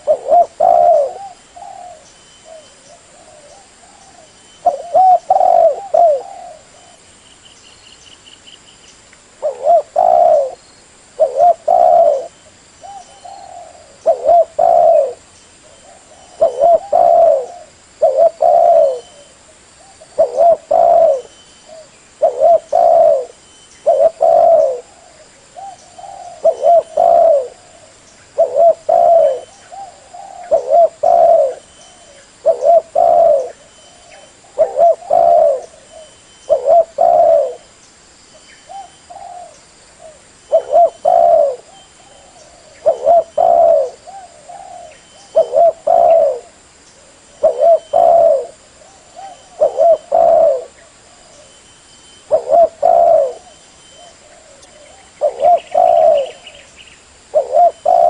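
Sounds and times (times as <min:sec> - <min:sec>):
dove cooing: 0:00.0 - 0:07.0, 0:09.4 - 0:37.7, 0:38.6 - 0:51.6, 0:52.2 - 0:58.0.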